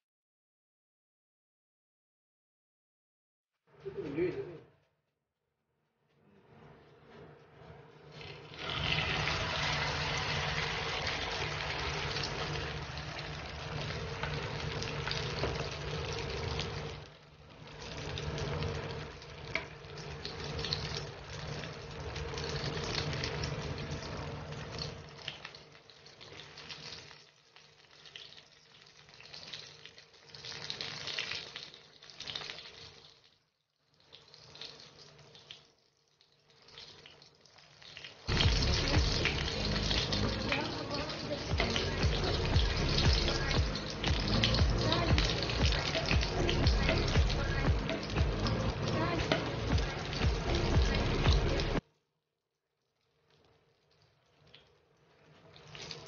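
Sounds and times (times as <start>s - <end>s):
eggplant sizzling in a frying pan: 8.1s - 51.8s, 53.1s - 56.0s.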